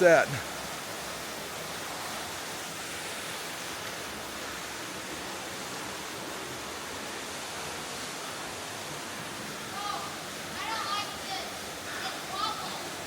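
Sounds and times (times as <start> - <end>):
waterfall splashing into pool: 0.0 - 13.0.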